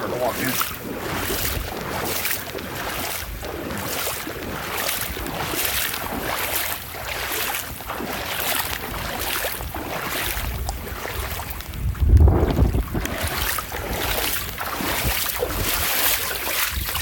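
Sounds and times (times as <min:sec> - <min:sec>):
legs wading through water: 0:00.0 - 0:17.0
wind rumbling on microphone: 0:00.0 - 0:17.0.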